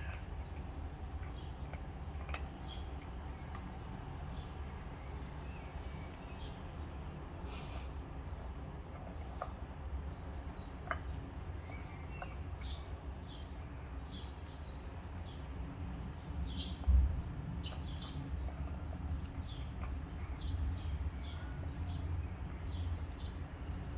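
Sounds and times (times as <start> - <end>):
small birds chirping: 2.5 - 23.9.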